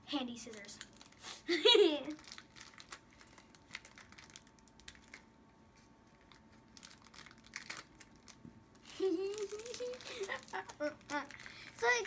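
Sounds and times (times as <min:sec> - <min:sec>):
plastic packet crinkling: 0:00.4 - 0:05.4, 0:06.0 - 0:12.0.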